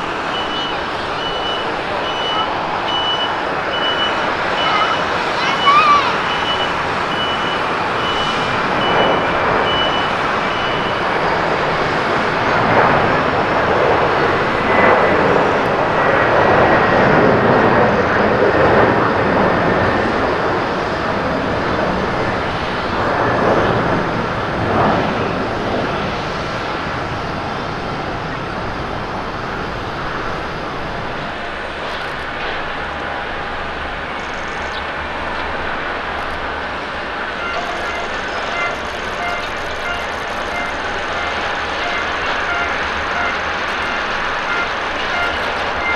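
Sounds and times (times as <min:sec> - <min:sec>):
jet airliner on approach: 0:00.0 - 0:45.9
jet engines at takeoff: 0:00.0 - 0:45.9.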